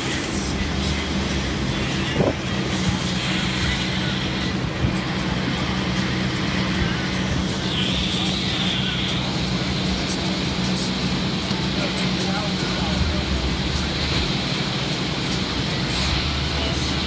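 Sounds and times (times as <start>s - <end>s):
boat engine humming: 0.0s - 17.0s
churning wake water: 0.0s - 17.0s.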